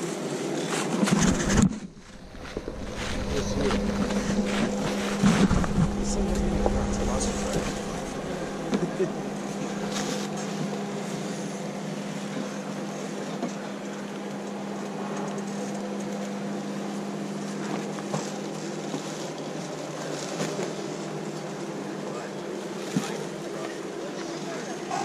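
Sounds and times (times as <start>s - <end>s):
off-road vehicle engine drone: 0.0s - 25.0s.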